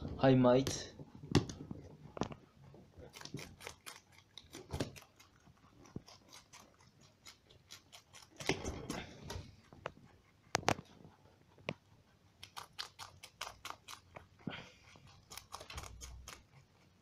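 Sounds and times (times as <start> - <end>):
rabbit crunching cabbage: 0.3 - 17.0.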